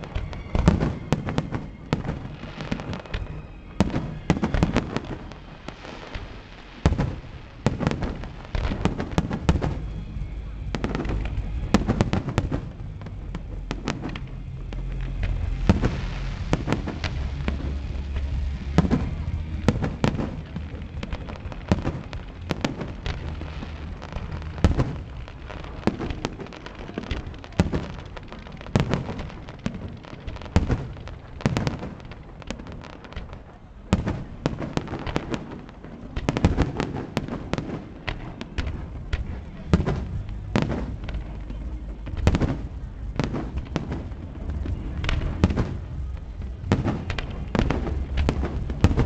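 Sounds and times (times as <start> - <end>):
low rumble: 0.0 - 37.1, 37.8 - 49.0
fireworks bangs: 0.0 - 49.0
fireworks crackling: 0.0 - 49.0.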